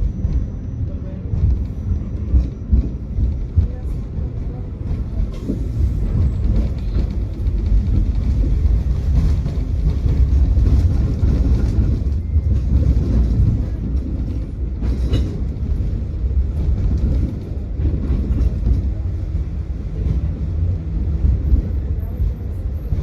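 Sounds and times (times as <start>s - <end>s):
tram rumbling on rails: 0.0s - 23.0s.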